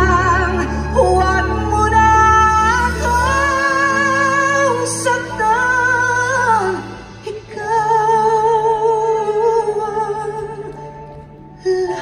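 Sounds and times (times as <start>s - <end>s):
woman singing a slow ballad: 0.0s - 12.0s.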